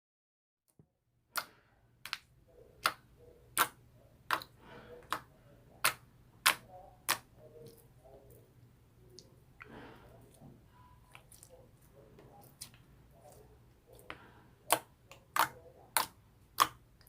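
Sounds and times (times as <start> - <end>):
faint low hum: 1.4 - 17.0.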